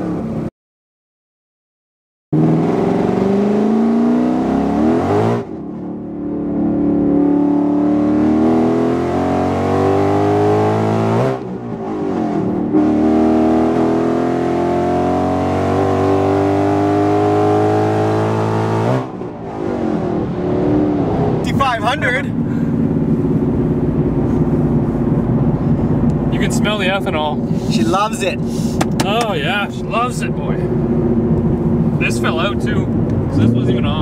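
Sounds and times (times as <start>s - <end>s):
car engine at full throttle: 2.4s - 34.0s.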